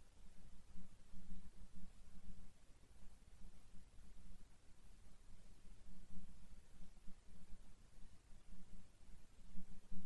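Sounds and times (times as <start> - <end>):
low uneven room hum: 0.0 - 10.0.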